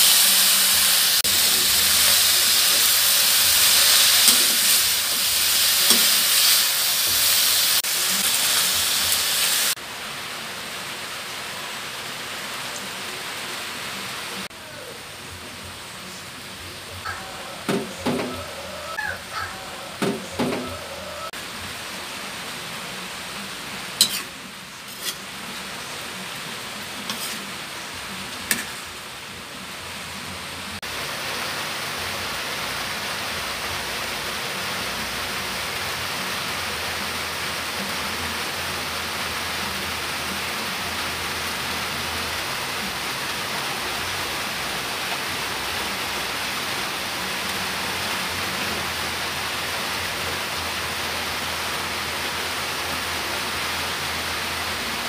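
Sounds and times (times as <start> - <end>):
food sizzling in a wok: 0.0 - 55.0.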